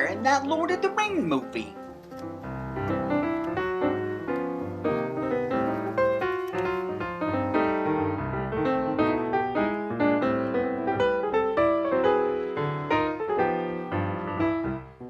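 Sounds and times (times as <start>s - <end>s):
busy piano tune: 0.0s - 15.0s.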